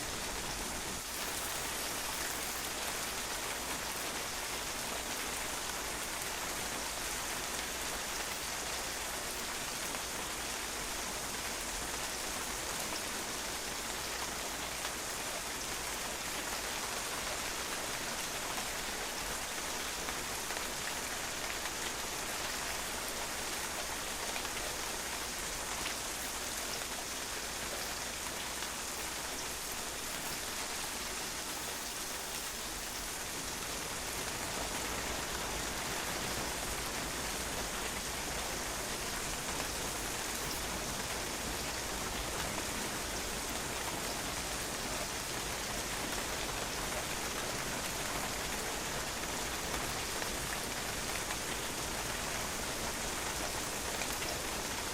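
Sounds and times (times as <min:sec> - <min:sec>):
rain pattering on hard surface: 0:00.0 - 0:54.9.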